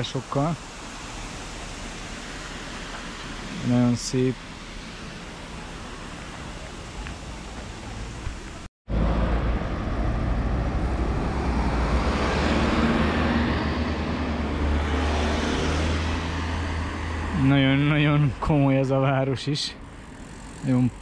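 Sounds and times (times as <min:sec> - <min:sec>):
car passing close: 0:00.0 - 0:21.0
street traffic: 0:00.0 - 0:21.0.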